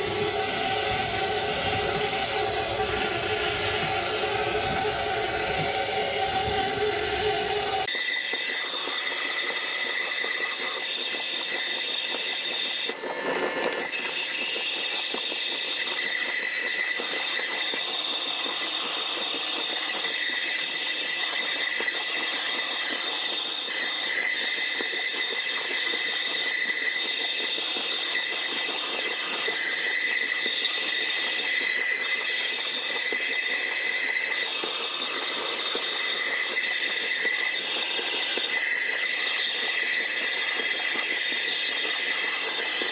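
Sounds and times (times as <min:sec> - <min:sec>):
high whistle: 0:00.0 - 0:13.0, 0:13.6 - 0:42.9
abrasive slurry and air hiss: 0:00.0 - 0:42.9.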